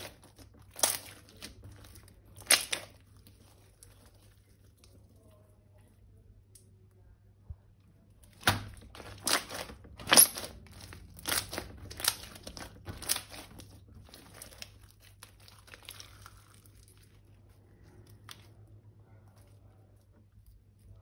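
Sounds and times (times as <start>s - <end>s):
crinkling and crackling: 0.0s - 21.0s.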